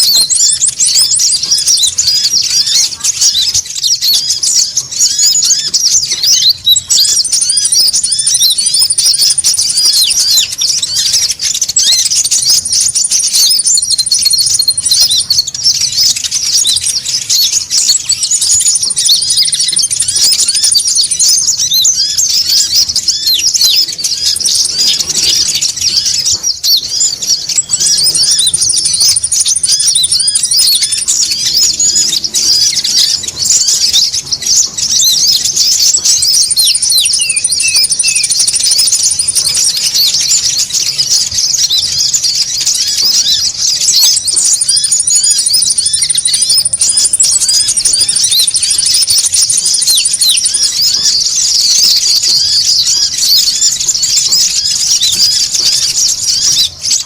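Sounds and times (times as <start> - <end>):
birds chattering chorus: 0.0 - 57.0.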